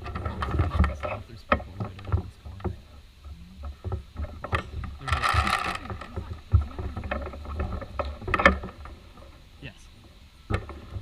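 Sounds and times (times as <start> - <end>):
clicks and low bumps: 0.0 - 11.0
hissing rustle: 0.0 - 11.0.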